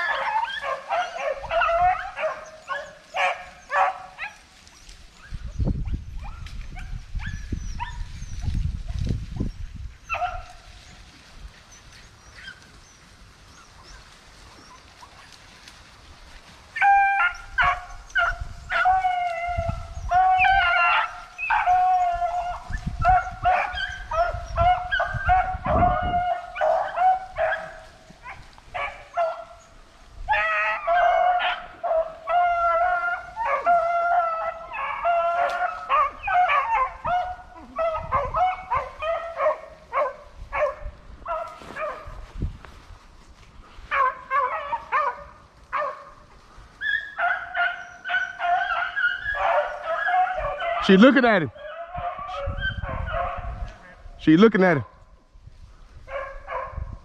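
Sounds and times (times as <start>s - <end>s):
hounds baying: 0.0s - 42.4s, 43.8s - 55.0s, 56.0s - 57.0s.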